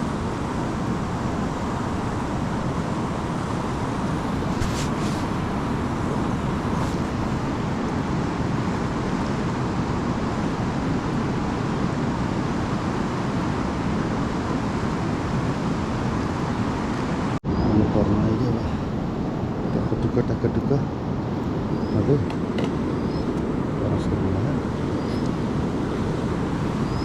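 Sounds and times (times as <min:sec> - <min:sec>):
fast river rushing roar: 0:00.0 - 0:27.0.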